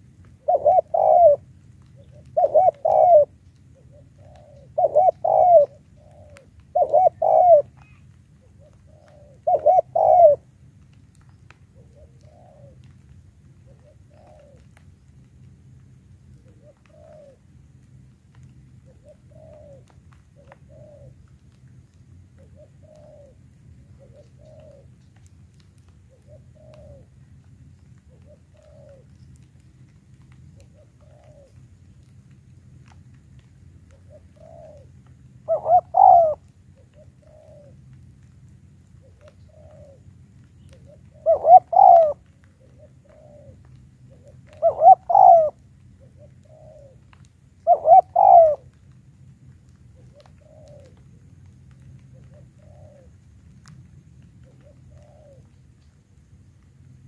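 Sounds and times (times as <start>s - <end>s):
dove cooing: 0.0s - 10.5s, 11.2s - 14.8s, 16.3s - 17.5s, 18.3s - 21.5s, 22.3s - 29.5s, 30.2s - 32.1s, 33.8s - 38.3s, 38.9s - 48.9s, 49.7s - 53.5s, 54.2s - 55.9s.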